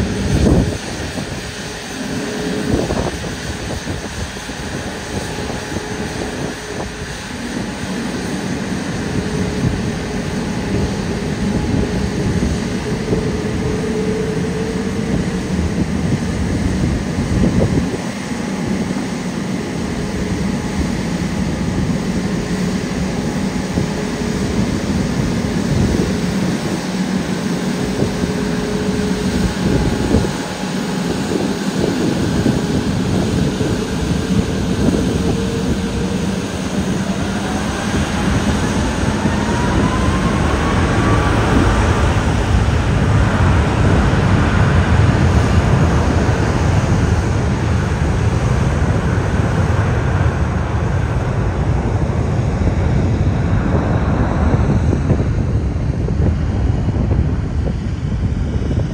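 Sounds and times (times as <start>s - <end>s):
jet engines spooling up: 0.0s - 58.9s.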